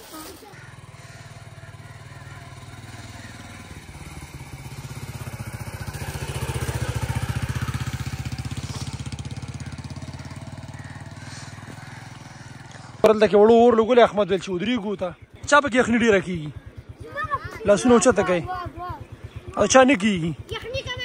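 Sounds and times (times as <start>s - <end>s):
motorcycle passing by: 0.2s - 21.0s.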